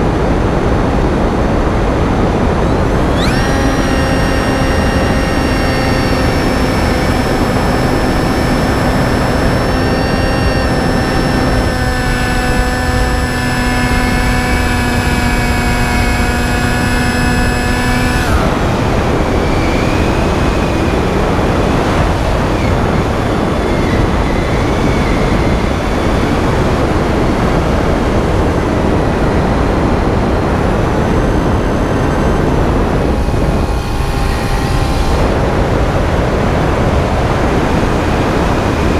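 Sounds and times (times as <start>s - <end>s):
electric motor and propeller whining: 0.0s - 38.9s
heavy wind rush: 0.0s - 38.9s.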